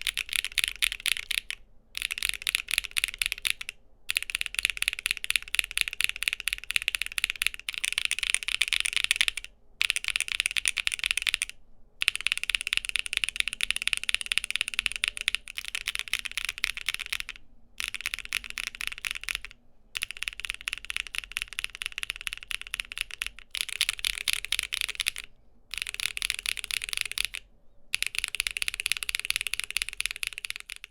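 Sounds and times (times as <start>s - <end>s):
fast typing on mechanical keyboard: 0.0s - 27.4s, 28.0s - 30.9s.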